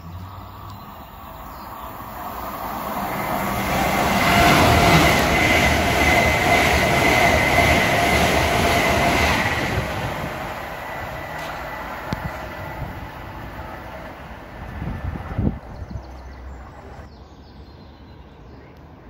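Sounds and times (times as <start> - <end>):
high-speed train passing: 0.0 - 17.1.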